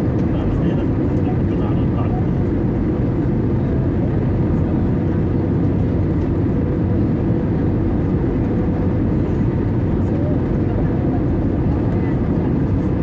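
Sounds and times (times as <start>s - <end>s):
aircraft cabin engine roar: 0.0s - 13.0s.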